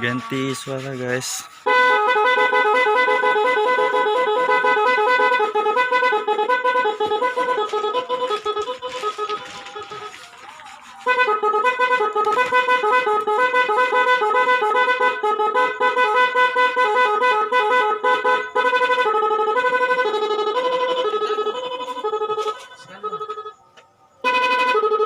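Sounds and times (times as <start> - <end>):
electronic horn playing melody: 0.0 - 23.6, 24.2 - 25.0.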